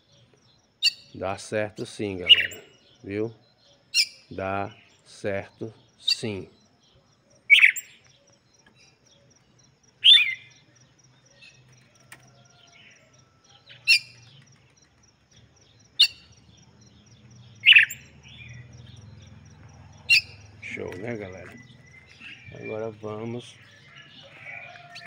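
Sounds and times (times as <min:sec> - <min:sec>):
bird chirping loudly: 0:00.7 - 0:25.0.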